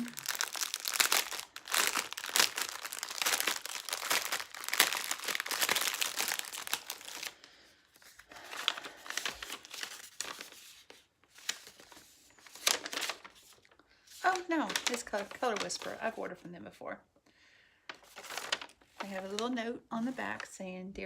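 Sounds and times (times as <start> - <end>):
plastic packaging crinkling: 0.0 - 16.2, 17.9 - 19.5.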